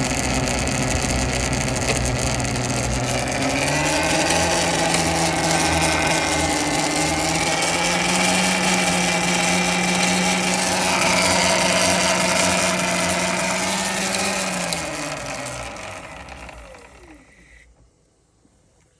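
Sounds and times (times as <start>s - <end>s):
electric motorbike motor whine: 0.0s - 17.8s.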